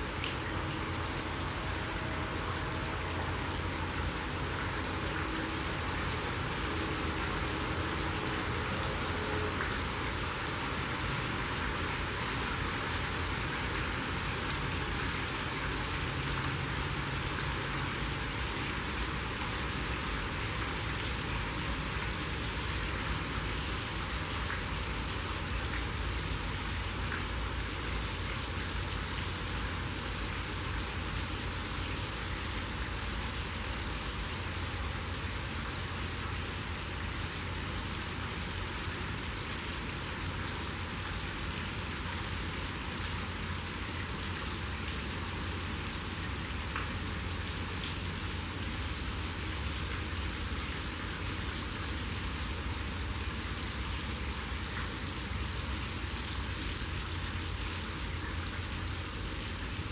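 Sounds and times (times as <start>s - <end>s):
rain falling on water and concrete: 0.0s - 59.9s.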